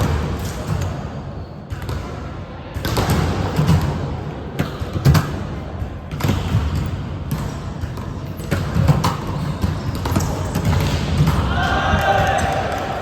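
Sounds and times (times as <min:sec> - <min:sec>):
echoing hall noise: 0:00.0 - 0:13.0.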